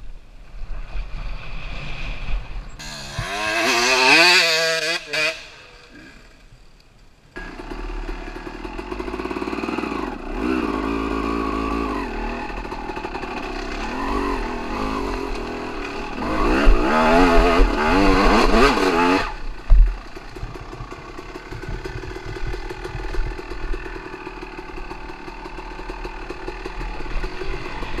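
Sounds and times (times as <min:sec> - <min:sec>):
dirt bike engine revving: 0:02.8 - 0:06.3, 0:07.4 - 0:28.0.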